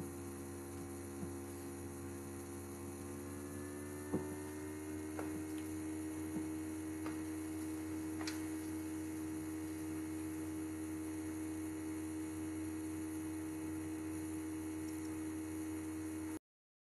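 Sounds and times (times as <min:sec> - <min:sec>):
steady electrical hum: 0:00.0 - 0:16.4.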